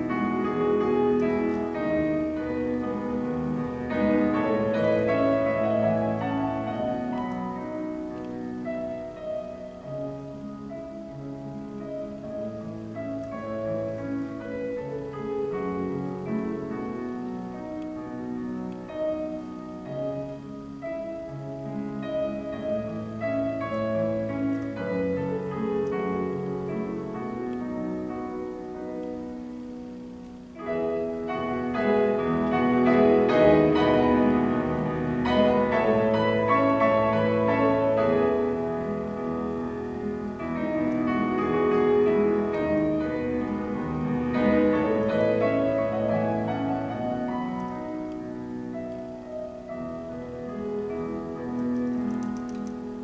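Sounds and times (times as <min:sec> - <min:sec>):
solo grand piano piece: 0:00.0 - 0:53.0.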